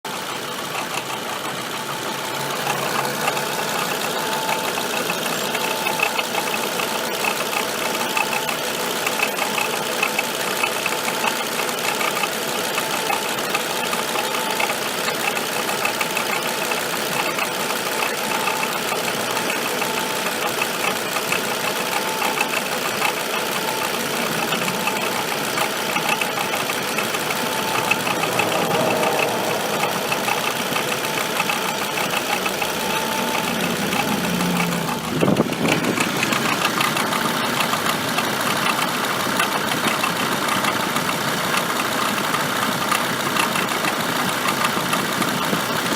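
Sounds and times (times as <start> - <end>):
motor running with clatter: 0.1 - 45.9.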